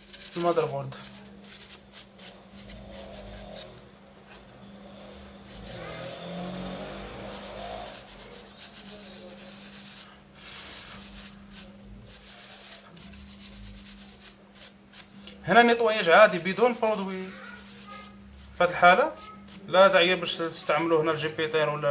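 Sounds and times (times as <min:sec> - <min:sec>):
brush scratching circuit board: 0:00.0 - 0:03.8, 0:05.4 - 0:15.1, 0:16.0 - 0:21.4.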